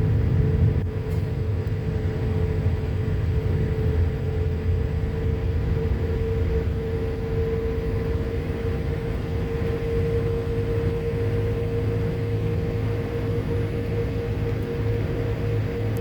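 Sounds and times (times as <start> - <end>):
airliner cabin rumble: 0.0 - 16.0
engine and air system hum: 0.0 - 16.0.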